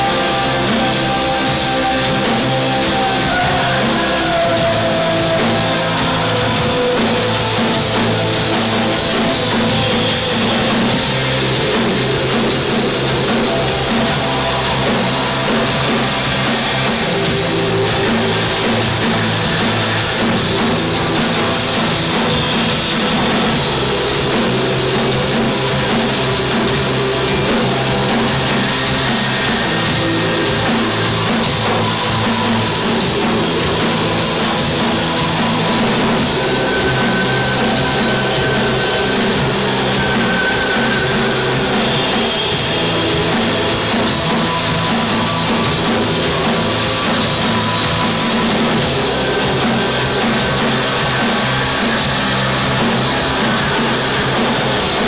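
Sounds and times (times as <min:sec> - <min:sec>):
bass guitar: 0:00.0 - 0:55.0
drum kit: 0:00.0 - 0:55.0
electric guitars: 0:00.0 - 0:55.0.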